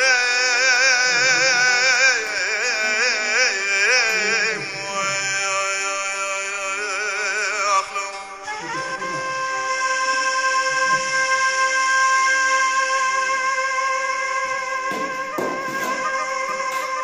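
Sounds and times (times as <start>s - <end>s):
person singing with vibrato: 0.0s - 17.0s
steady held accompaniment: 0.0s - 17.0s.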